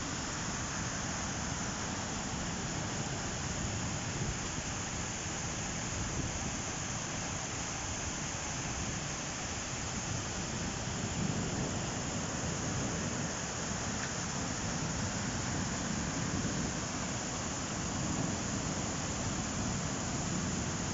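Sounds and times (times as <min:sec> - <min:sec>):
heavy rain downpour: 0:00.0 - 0:20.9.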